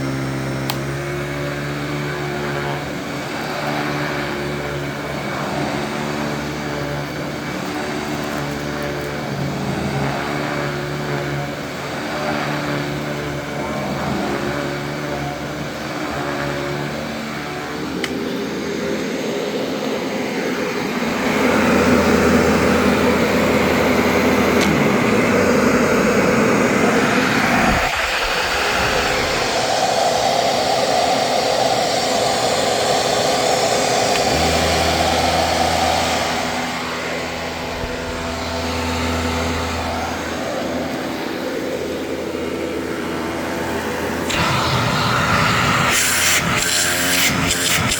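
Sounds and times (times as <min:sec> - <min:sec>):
upright vacuum cleaner running: 0:00.0 - 0:47.9.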